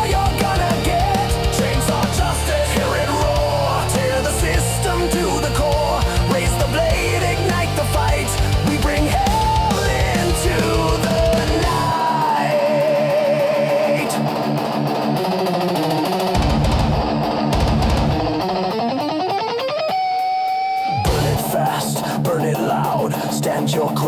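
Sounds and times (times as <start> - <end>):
bass and drums: 0.0 - 14.6, 16.3 - 18.7, 20.9 - 24.0
distorted electric guitar lead: 0.0 - 24.0.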